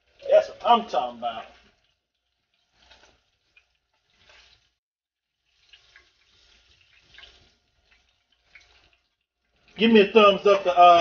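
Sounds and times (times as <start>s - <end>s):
hot oil sizzling and crackling: 0.0s - 11.0s.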